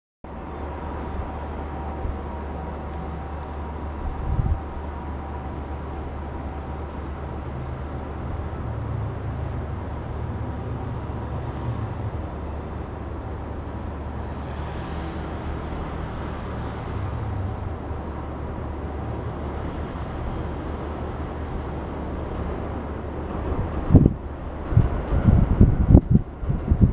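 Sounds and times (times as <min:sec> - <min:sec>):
city traffic rumble: 0:00.2 - 0:26.9.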